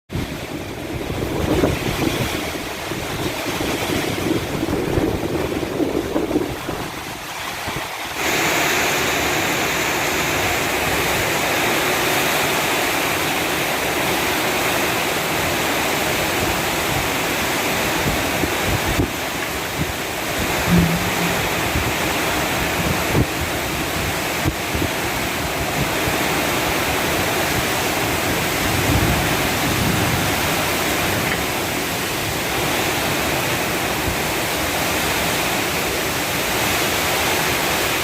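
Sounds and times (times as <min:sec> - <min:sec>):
wind gusting on microphone: 0:00.1 - 0:12.0, 0:13.2 - 0:38.0
steady storm hiss: 0:00.2 - 0:38.0.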